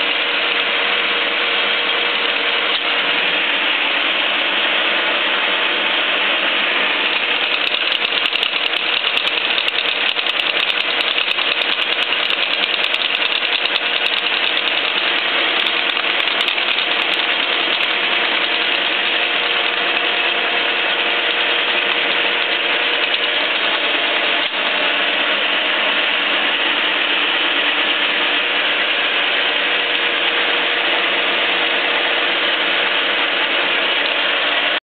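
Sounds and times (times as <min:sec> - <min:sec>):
milling machine cutting steel: 0:00.0 - 0:34.8.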